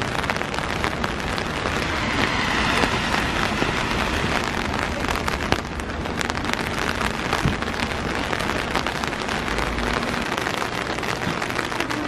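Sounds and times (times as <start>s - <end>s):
steady rain patter: 0.0s - 12.0s.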